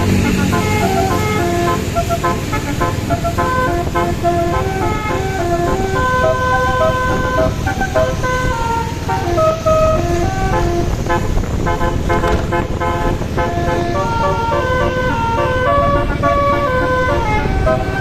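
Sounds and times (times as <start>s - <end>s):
engine and road rumble: 0.0s - 18.0s
multi-tone bus horn melody: 0.0s - 18.0s.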